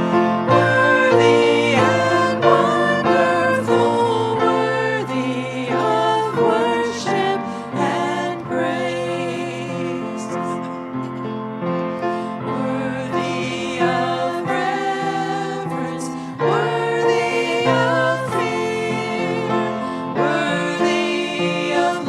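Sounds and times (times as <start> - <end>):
group singing a church song: 0.0 - 22.0
keyboard accompaniment: 0.0 - 22.0.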